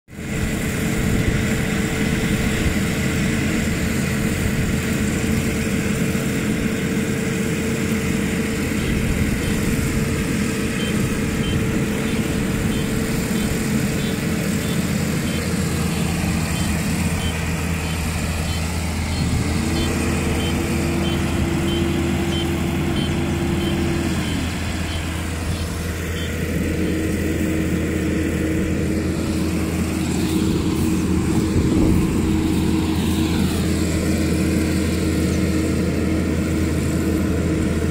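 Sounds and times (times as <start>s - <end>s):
combine harvester engine running: 0.1s - 37.9s
high machine whine: 0.1s - 37.9s.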